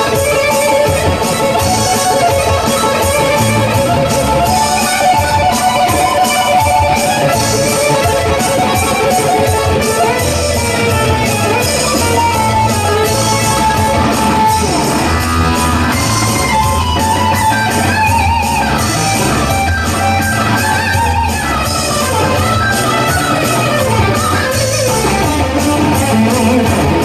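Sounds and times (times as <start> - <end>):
electric guitar lead: 0.0 - 27.0
steady rock beat: 0.0 - 27.0.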